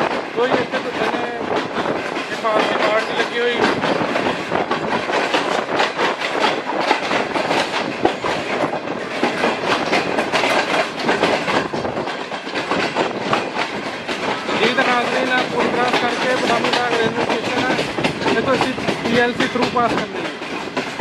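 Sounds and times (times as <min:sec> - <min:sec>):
train wheels rumbling on rail: 0:00.0 - 0:21.0
wheels clattering over rail joints: 0:00.0 - 0:21.0.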